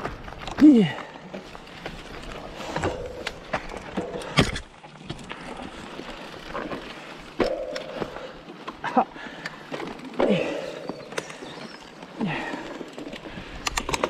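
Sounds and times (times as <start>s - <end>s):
bike rattling: 0.0s - 14.0s
bike tyres rolling on dirt: 0.0s - 14.0s.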